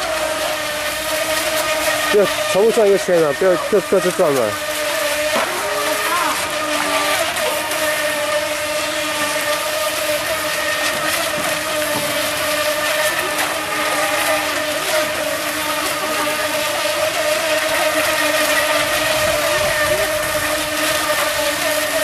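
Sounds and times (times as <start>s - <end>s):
electric boat motors whining: 0.0s - 22.0s.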